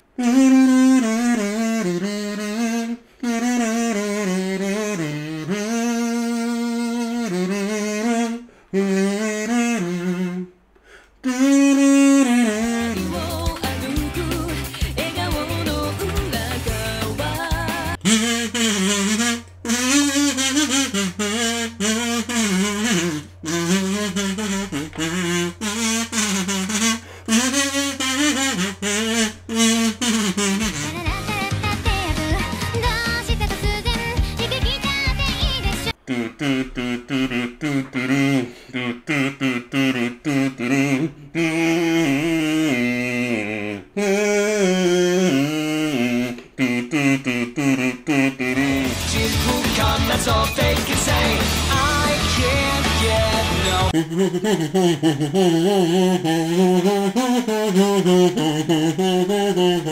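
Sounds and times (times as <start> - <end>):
kazoo buzzing a melody: 0.0 - 59.9.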